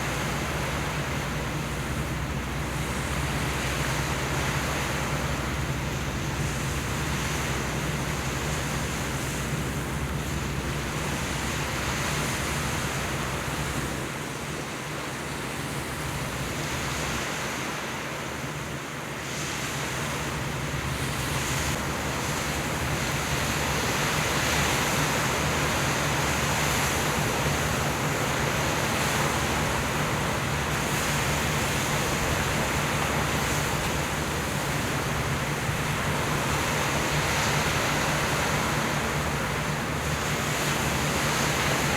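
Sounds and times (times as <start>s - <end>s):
low engine hum: 0.0s - 41.9s
wind and sea rushing: 0.0s - 41.9s.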